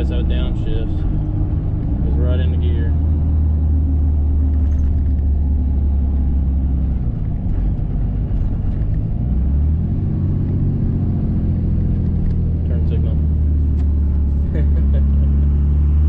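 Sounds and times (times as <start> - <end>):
diesel pickup engine droning: 0.0 - 16.0.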